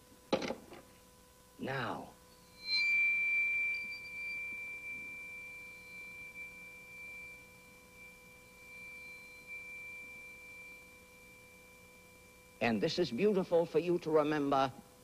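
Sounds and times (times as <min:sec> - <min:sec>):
bowed metal plate ringing tone: 0:02.2 - 0:14.6.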